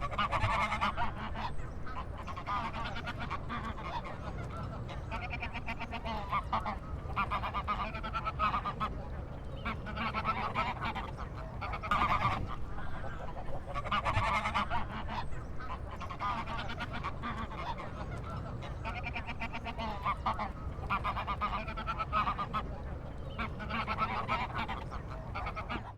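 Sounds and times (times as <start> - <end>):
duck quacking: 0.0 - 9.0, 9.6 - 25.9.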